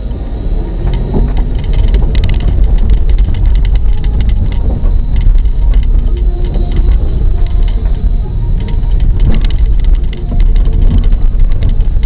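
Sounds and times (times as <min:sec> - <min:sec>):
car engine and road rumble: 0:00.0 - 0:12.0
tyres crackling on snow: 0:00.7 - 0:12.0.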